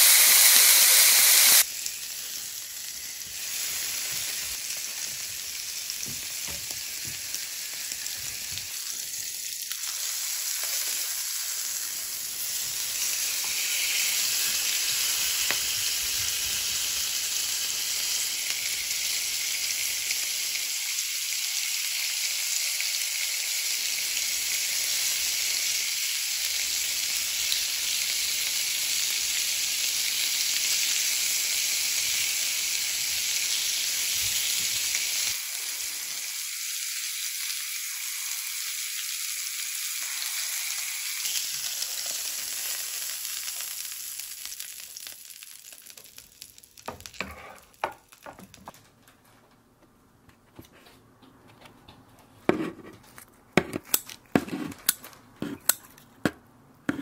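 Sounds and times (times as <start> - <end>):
steak sizzling on a grill: 0.0 - 48.3.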